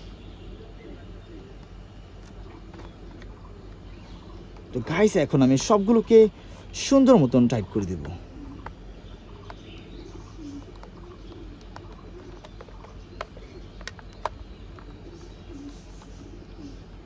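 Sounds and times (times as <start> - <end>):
bird cooing: 0.0 - 17.0.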